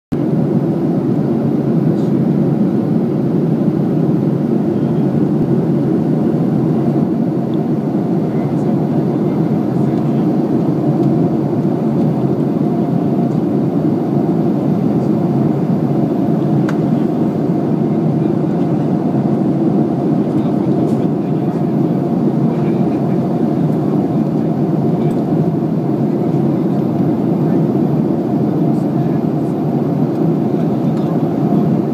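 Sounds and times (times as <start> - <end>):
airliner cabin engine rumble: 0.1 - 31.9.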